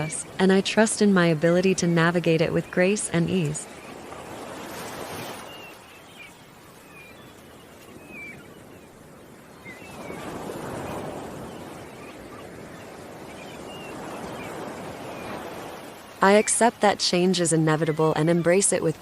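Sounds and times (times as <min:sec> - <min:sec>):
ocean waves washing in: 0:00.0 - 0:18.2
small birds chirping: 0:00.0 - 0:19.0.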